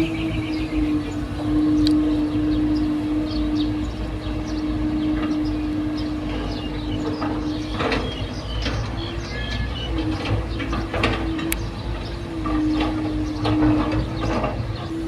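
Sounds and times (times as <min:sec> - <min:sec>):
low rumble: 0:00.0 - 0:15.0
motor humming: 0:00.0 - 0:15.0.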